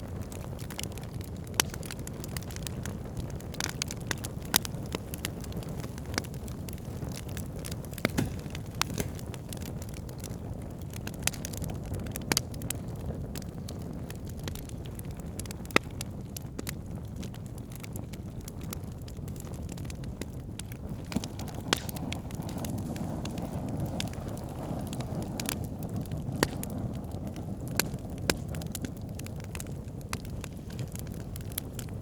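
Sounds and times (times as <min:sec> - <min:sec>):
campfire flames rumbling: 0:00.0 - 0:32.0
sharp pops of fire: 0:00.0 - 0:32.0
wood crackling: 0:00.0 - 0:32.0.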